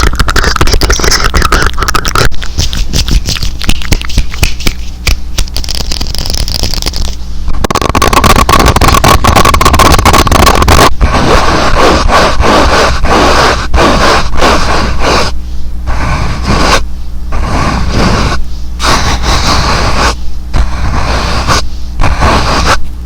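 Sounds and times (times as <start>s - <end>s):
rubbing and scratching strokes: 0.0s - 22.9s
steady low hum: 0.0s - 23.0s.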